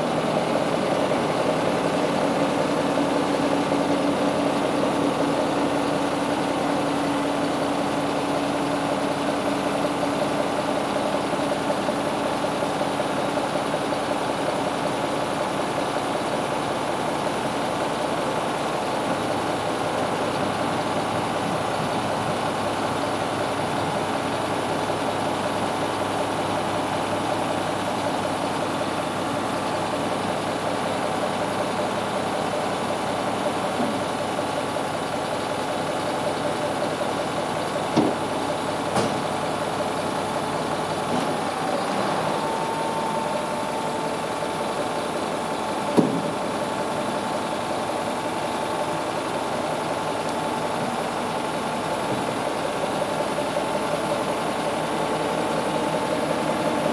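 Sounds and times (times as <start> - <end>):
diesel engine idling: 0.0 - 56.9.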